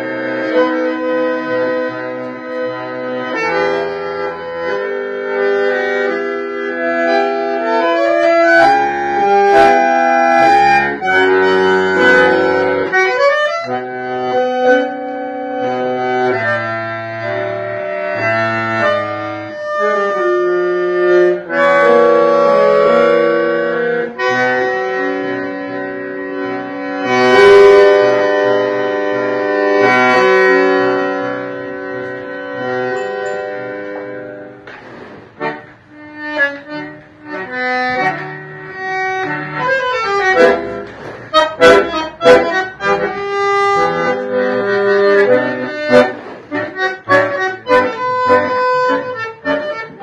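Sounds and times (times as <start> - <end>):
bandoneon playing tango: 0.0 - 50.0.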